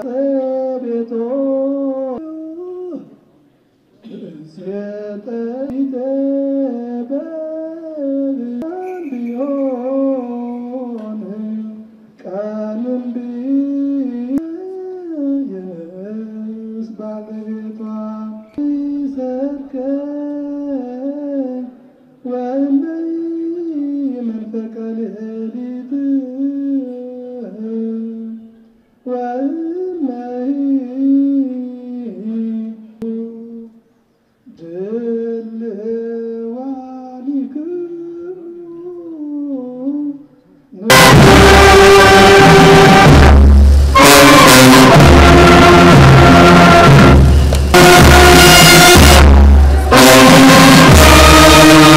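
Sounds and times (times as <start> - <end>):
person singing unaccompanied: 0.0 - 3.2, 4.4 - 28.4, 34.5 - 51.9.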